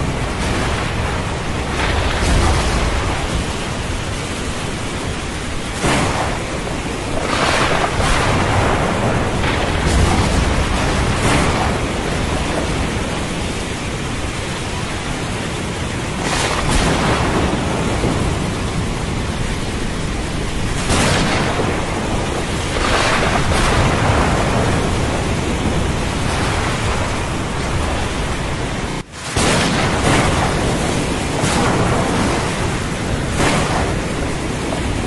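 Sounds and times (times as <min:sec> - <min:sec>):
steady rain: 0:00.0 - 0:35.0
thunder: 0:00.0 - 0:35.0.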